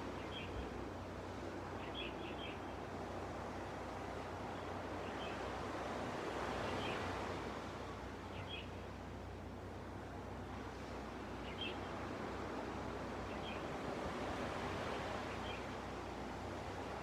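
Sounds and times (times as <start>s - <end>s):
ocean waves washing on beach: 0.0s - 17.0s.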